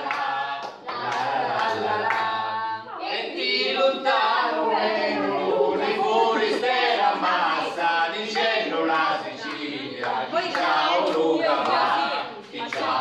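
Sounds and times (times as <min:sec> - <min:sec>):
voices singing without instruments: 0:00.0 - 0:13.0.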